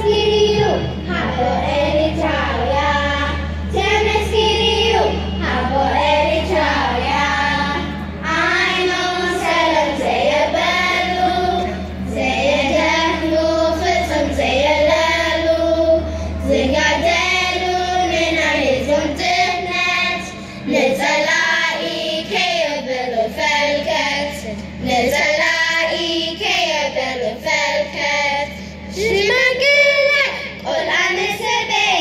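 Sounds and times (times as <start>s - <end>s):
children singing together: 0.0s - 32.0s.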